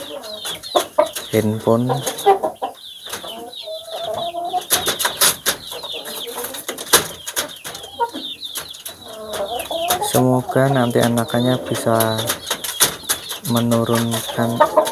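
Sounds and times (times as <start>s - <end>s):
hen clucking: 0.0s - 14.9s
small birds chirping: 0.0s - 14.9s.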